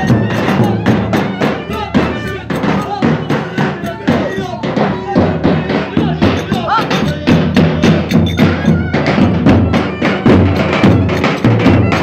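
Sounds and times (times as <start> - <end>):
drums and hand percussion: 0.0 - 12.0.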